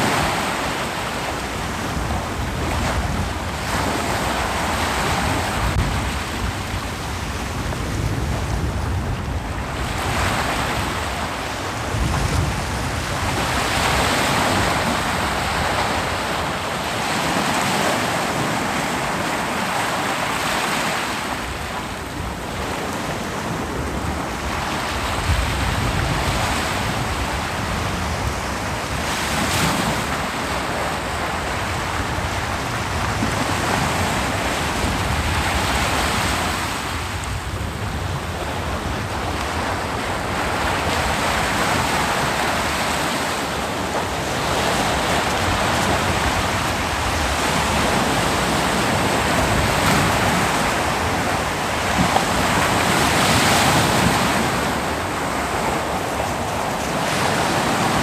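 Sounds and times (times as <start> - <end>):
ocean waves breaking: 0.0 - 58.0
wind on microphone: 0.0 - 58.0.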